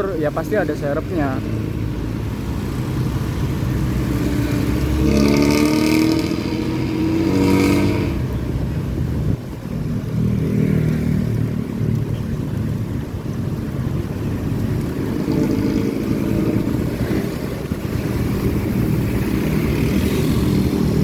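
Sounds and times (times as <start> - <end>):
bus diesel engine accelerating: 0.0 - 21.0.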